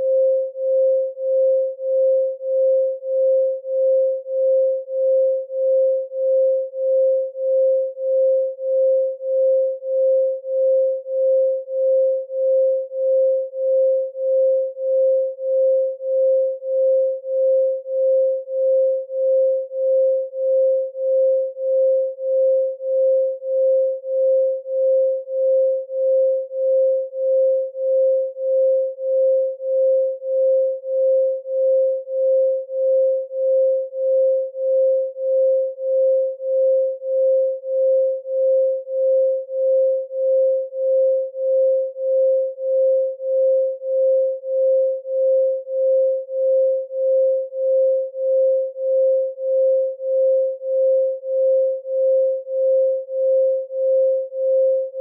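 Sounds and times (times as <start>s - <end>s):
pulsing sine tone: 0.0s - 55.0s.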